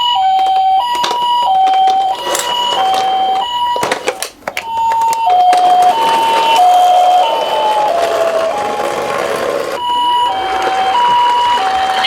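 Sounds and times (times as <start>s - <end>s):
toy ambulance two-tone siren: 0.0s - 12.0s.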